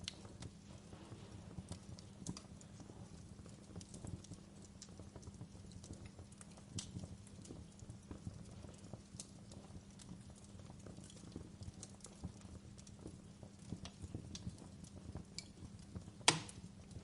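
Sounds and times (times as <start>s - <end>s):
crackles and pops of burning logs: 0.0s - 17.0s
wood fire rumbling: 0.0s - 17.0s.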